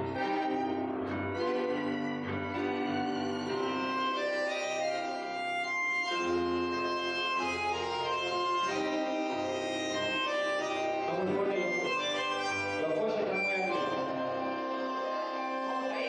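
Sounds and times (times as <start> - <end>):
bandoneon reed chords: 0.0 - 16.0
tango orchestra playing: 0.0 - 16.0.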